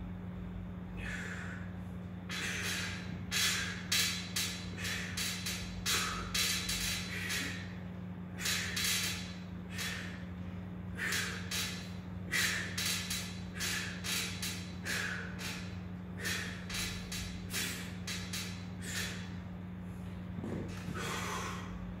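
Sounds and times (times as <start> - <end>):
steady low hum: 0.0 - 22.0
man breathing forcefully: 0.9 - 20.1, 20.7 - 22.0.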